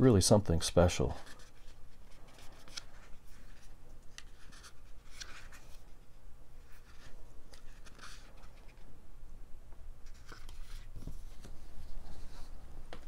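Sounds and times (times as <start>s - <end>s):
paper pages turning: 1.1s - 8.9s, 10.0s - 13.0s.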